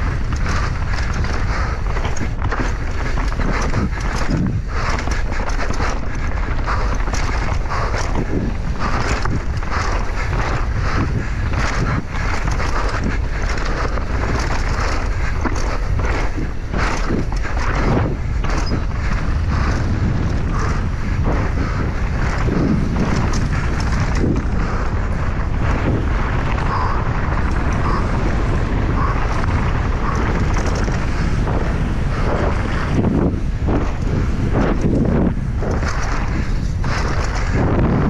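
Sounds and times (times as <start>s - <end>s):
knocks and rattles: 0.0s - 38.0s
wind buffeting microphone: 0.0s - 38.0s.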